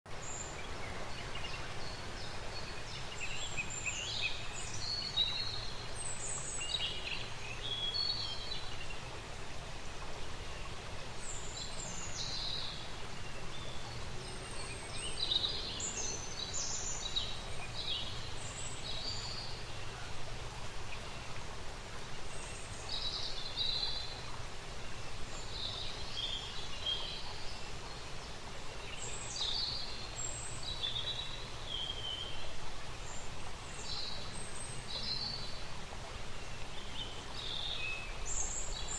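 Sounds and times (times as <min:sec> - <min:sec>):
songbirds chirping: 0:00.1 - 0:38.9.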